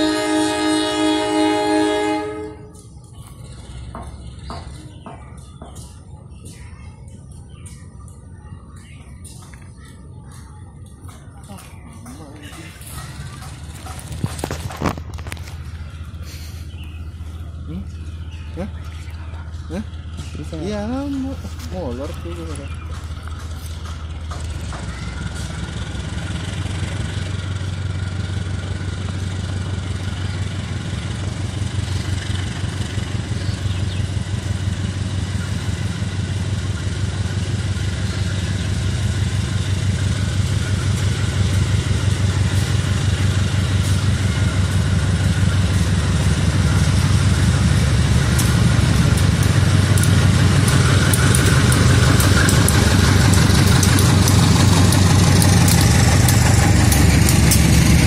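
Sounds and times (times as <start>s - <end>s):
diesel locomotive engine rumbling: 0.0s - 58.0s.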